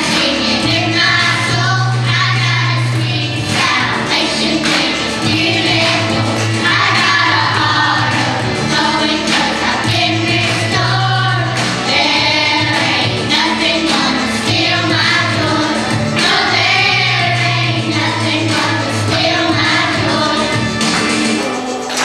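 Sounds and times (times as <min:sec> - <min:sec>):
children's choir singing: 0:00.0 - 0:22.0
instrumental accompaniment with bass: 0:00.0 - 0:22.0.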